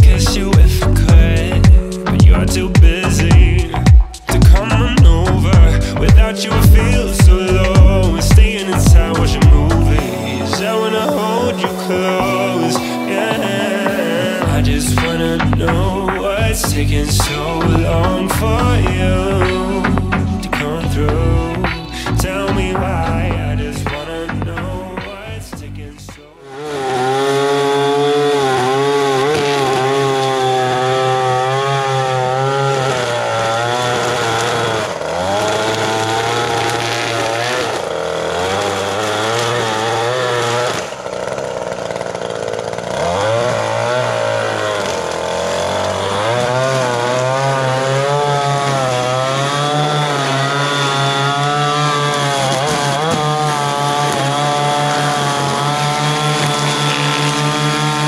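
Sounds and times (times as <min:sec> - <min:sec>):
string trimmer cutting grass: 0:00.0 - 0:24.4, 0:26.4 - 0:58.0.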